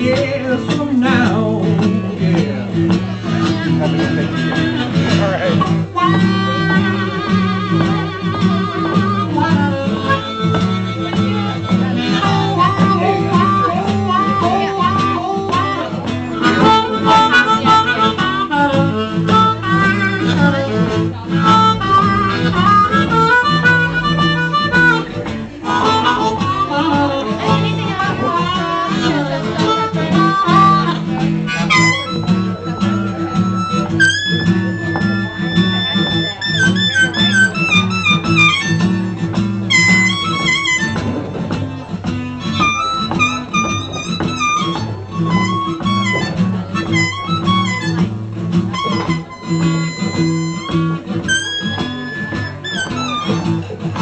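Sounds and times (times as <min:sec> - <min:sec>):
acoustic guitar strumming: 0:00.0 - 0:54.0
blues harmonica: 0:00.0 - 0:54.0.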